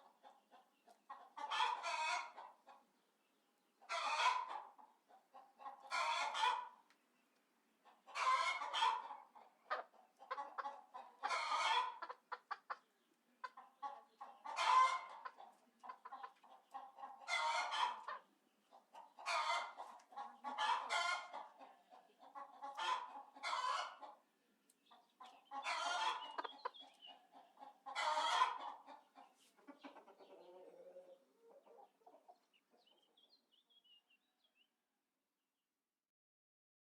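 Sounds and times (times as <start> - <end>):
chickens clucking and calling: 0.0 - 34.7.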